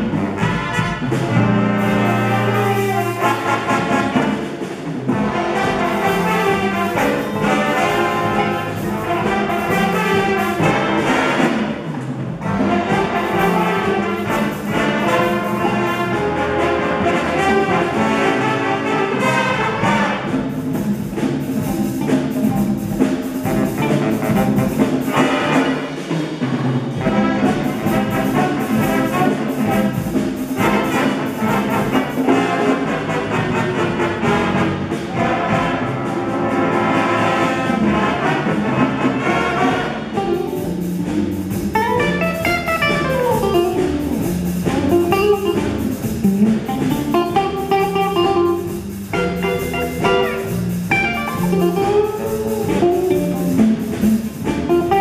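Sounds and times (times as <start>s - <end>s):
jazz big band playing: 0.0s - 55.0s.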